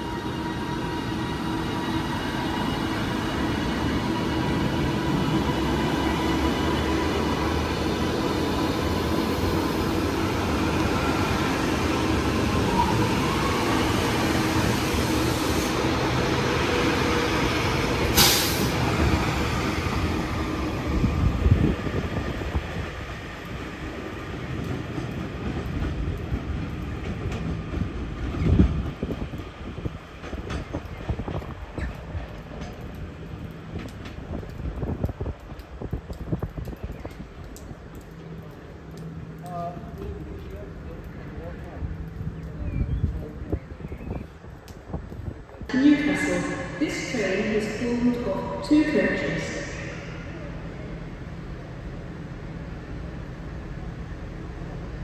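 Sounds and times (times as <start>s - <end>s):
passenger train rumbling past: 0.0s - 36.3s, 37.2s - 55.0s.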